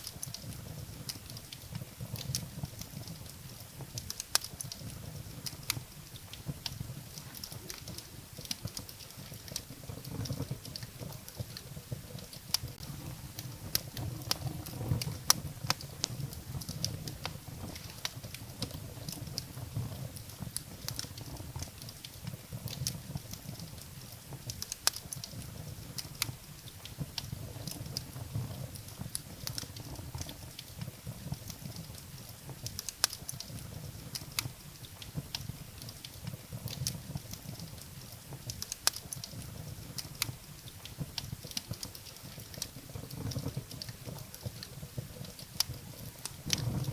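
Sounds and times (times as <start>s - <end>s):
firewood crackling and popping: 0.0s - 46.9s
low fire rumble: 0.0s - 46.9s.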